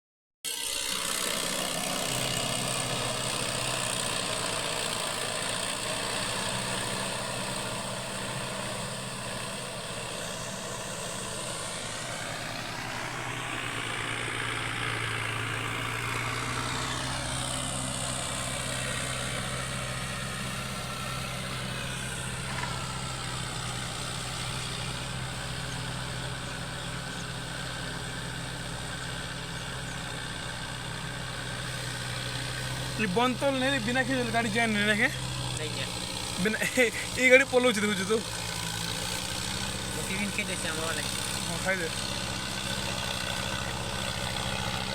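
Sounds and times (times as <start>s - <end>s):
tractor diesel engine running: 0.5s - 44.9s.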